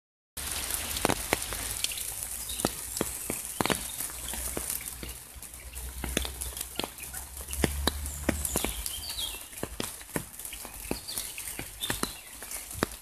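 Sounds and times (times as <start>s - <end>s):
large raindrops ticking: 0.4s - 13.0s
steady rain on puddles: 0.4s - 13.0s.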